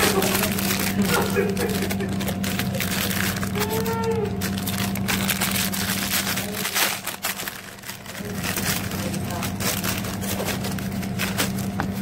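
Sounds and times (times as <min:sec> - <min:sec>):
plastic wrapping crinkling: 0:00.0 - 0:12.0
steady low hum: 0:00.0 - 0:12.0.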